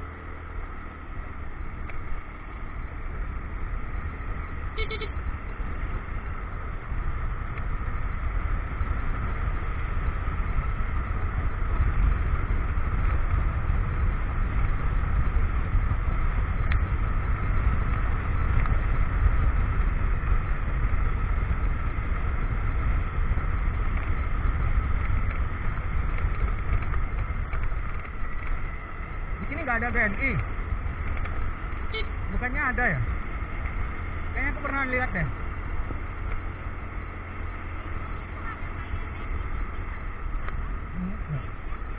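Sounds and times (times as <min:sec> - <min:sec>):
motorcycle engine running: 0:00.0 - 0:41.9
road and wind rumble: 0:00.0 - 0:41.9.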